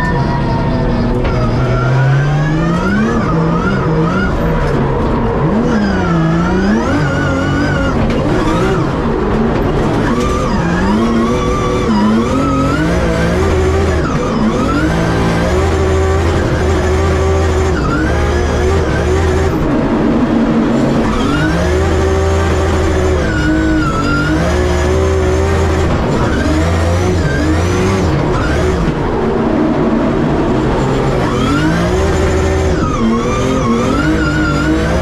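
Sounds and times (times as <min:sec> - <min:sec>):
car engine revving: 0:00.0 - 0:35.0
tyre and road noise: 0:00.0 - 0:35.0.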